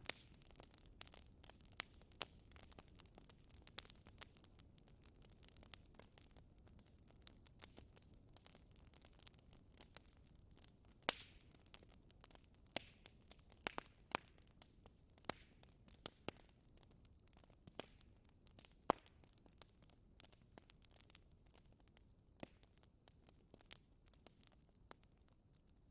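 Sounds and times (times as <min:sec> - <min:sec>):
wood fire crackling and popping: 0:00.0 - 0:25.9.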